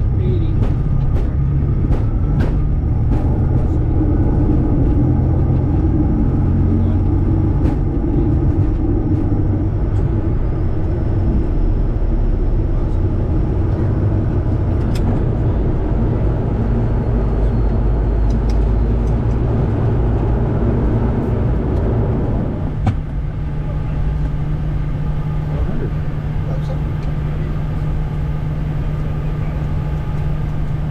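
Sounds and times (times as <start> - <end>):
jet engines roaring: 0.0 - 30.9
steady hum: 0.0 - 30.9.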